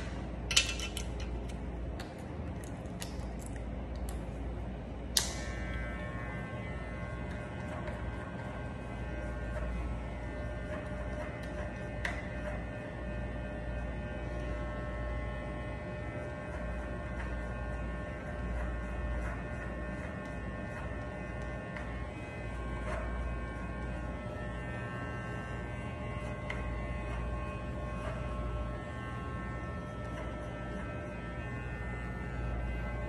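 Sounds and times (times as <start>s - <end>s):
electric hair clipper buzzing: 0.0s - 1.3s, 5.1s - 33.0s.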